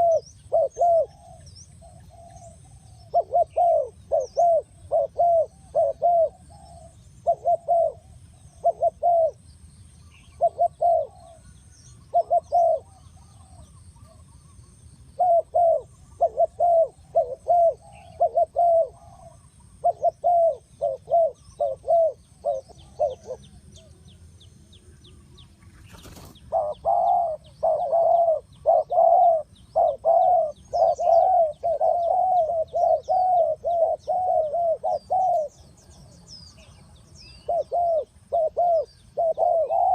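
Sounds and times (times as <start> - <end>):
dove cooing: 0.0 - 9.4, 10.1 - 14.6, 15.2 - 23.9, 25.9 - 35.8, 37.3 - 39.9.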